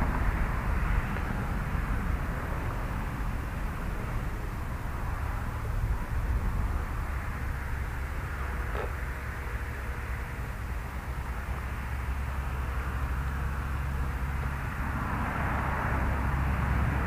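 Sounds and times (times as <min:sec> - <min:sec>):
low fluctuating rumble: 0:00.0 - 0:17.0.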